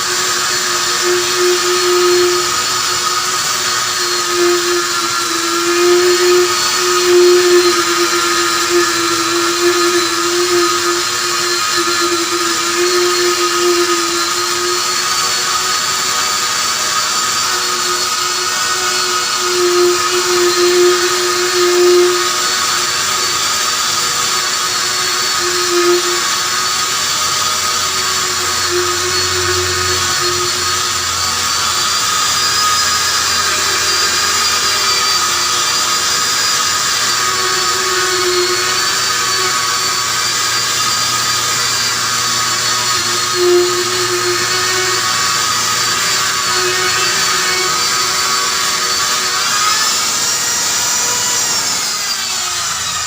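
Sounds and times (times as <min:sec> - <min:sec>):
rotary buffing tool whining: 0:00.0 - 0:53.0.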